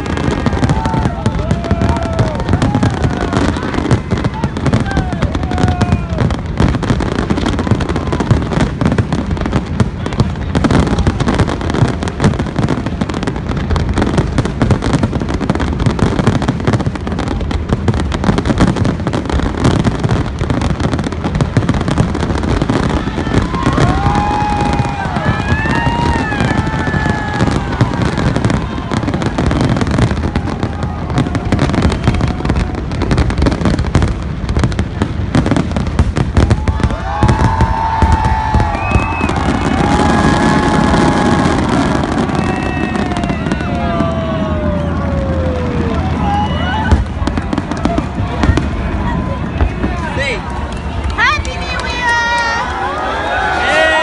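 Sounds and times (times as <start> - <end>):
fireworks whistling: 0.0 - 52.2
fireworks bangs and crackles: 0.0 - 54.0.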